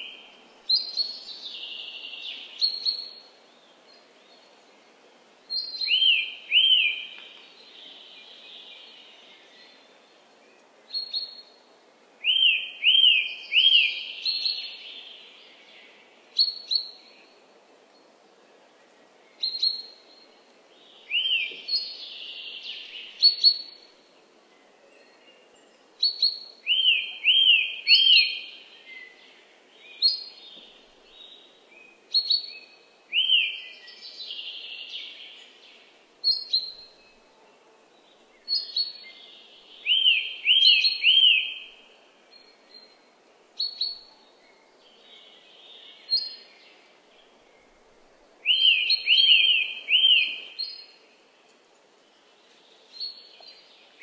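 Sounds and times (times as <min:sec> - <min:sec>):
birds singing whistled notes: 0:00.0 - 0:04.5, 0:05.5 - 0:11.6, 0:12.2 - 0:17.4, 0:19.3 - 0:37.3, 0:38.0 - 0:54.0
faint background hiss: 0:00.0 - 0:54.0.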